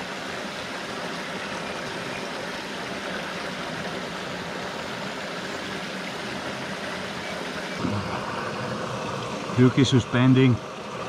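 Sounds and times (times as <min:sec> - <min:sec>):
brook water rushing: 0:00.0 - 0:11.0.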